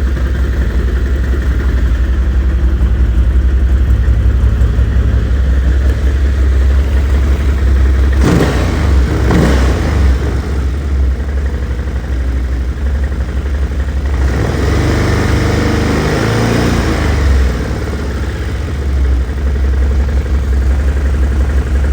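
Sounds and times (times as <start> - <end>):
atv engine idling with knock: 0.0 - 21.9
atv engine revving: 0.0 - 21.9.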